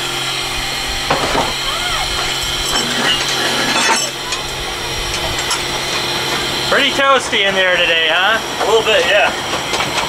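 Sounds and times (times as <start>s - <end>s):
steam locomotive hiss and hum: 0.0s - 10.0s.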